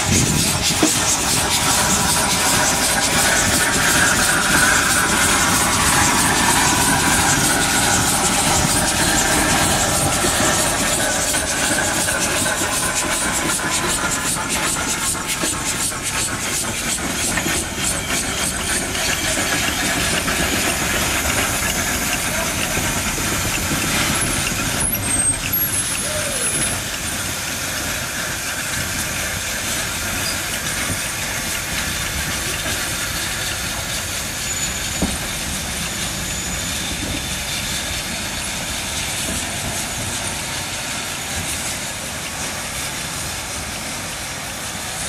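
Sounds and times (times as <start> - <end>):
locomotive exhaust beat: 0.0 - 45.0
steam hissing from locomotive: 0.0 - 45.0.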